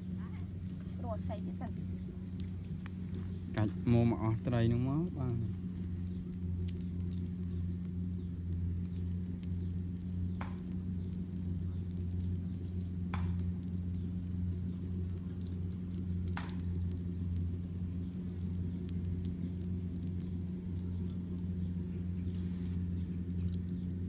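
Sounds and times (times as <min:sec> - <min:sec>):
fish sizzling on embers: 0:00.0 - 0:24.0
low drone: 0:00.0 - 0:24.0
wood fire crackling: 0:00.0 - 0:24.0
sharp pops from fire: 0:00.1 - 0:24.0.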